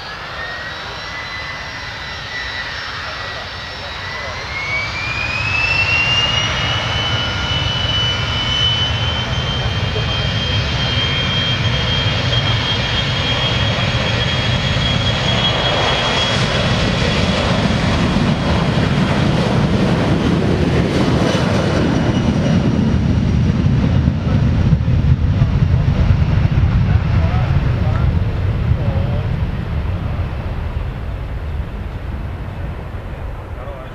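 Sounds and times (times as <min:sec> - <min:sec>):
jet engine roar: 0:00.0 - 0:33.9
jet engine whine: 0:00.0 - 0:33.9
deep rumble: 0:05.2 - 0:33.9.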